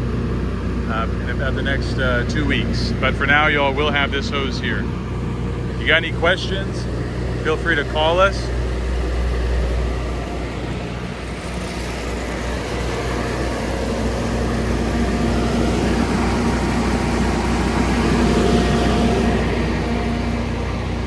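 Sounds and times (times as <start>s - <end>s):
low mechanical engine drone: 0.0s - 21.0s.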